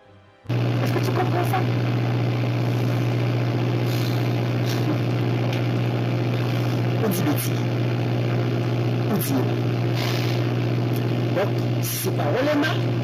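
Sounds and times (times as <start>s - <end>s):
engine drone: 0.5s - 13.0s.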